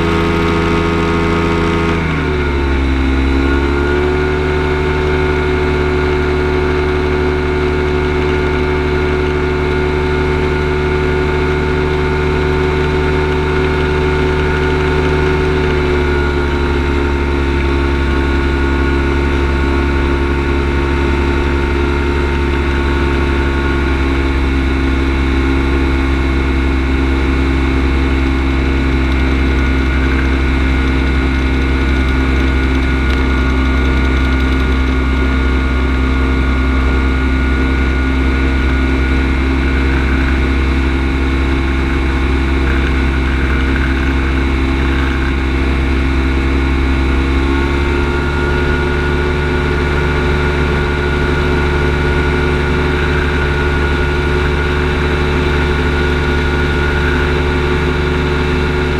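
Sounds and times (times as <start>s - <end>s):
aircraft engine running: 0.0s - 58.9s.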